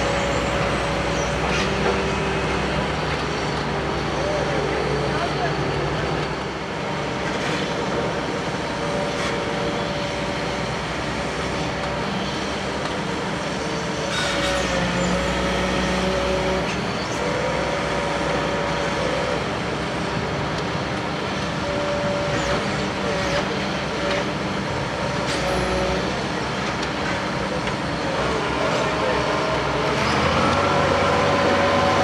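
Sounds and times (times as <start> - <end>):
diesel construction machinery running: 0.0 - 32.0
machinery whine: 0.0 - 32.0.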